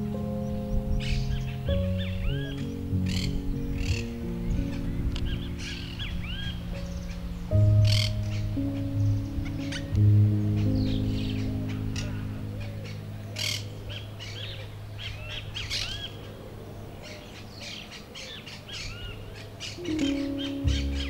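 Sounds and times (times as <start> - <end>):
low held chord background music: 0.0 - 21.0
songbirds chirping: 0.0 - 21.0.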